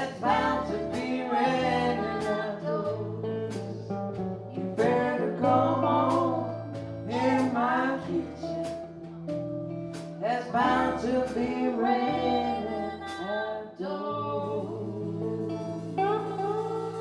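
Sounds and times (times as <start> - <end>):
women singing: 0.0 - 3.9, 4.5 - 9.0, 10.2 - 17.0
drum kit: 0.0 - 13.4, 14.2 - 17.0
electric bass guitars: 0.0 - 17.0.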